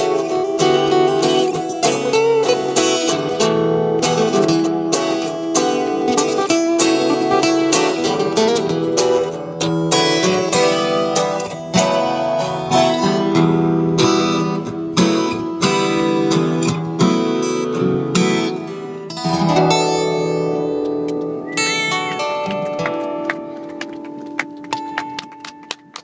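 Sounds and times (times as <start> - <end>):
acoustic guitars playing: 0.0 - 26.0.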